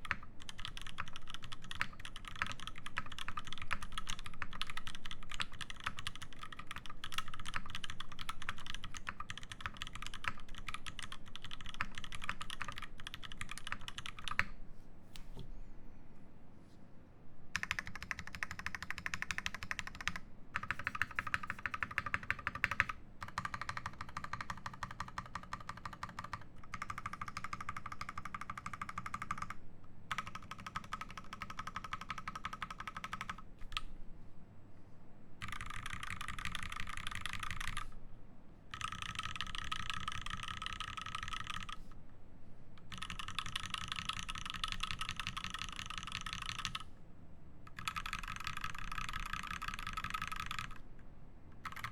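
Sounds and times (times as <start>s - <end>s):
mechanical keyboard typing: 0.0s - 14.5s, 17.6s - 33.9s, 35.4s - 37.9s, 38.7s - 41.9s, 42.8s - 46.9s, 47.7s - 50.8s, 51.6s - 51.9s.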